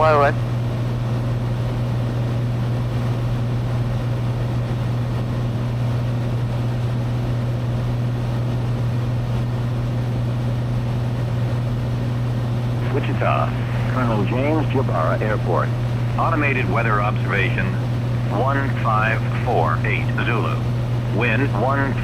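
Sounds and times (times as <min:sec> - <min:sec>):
airplane engine droning in cabin: 0:00.0 - 0:22.0.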